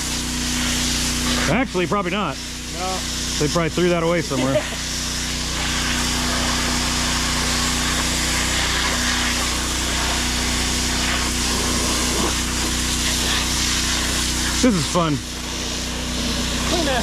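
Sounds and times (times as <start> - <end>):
pressure washer engine running: 0.0 - 17.0
water spray hissing: 0.0 - 17.0.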